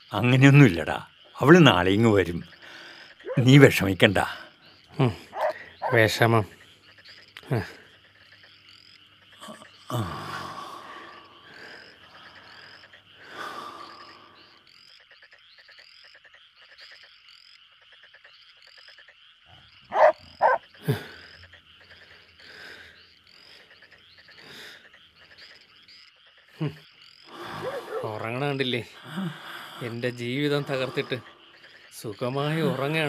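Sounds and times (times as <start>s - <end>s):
frogs calling: 0.0s - 33.0s.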